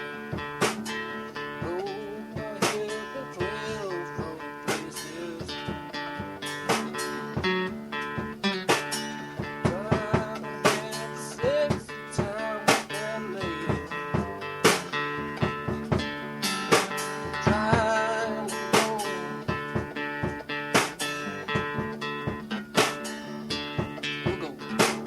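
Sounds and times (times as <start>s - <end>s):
acoustic guitar music: 0.0s - 25.0s.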